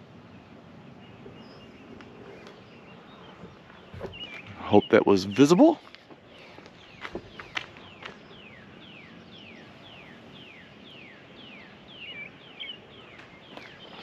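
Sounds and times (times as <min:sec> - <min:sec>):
songbird singing falling notes: 0:00.4 - 0:14.0.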